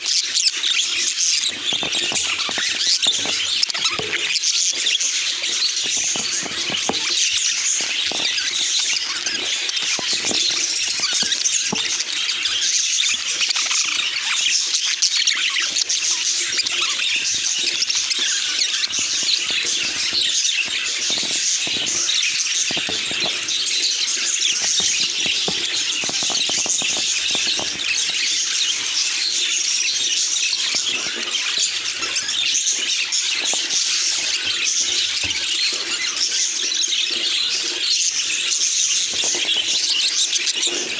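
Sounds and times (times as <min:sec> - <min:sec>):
budgerigars chattering and chirping: 0:00.0 - 0:40.9.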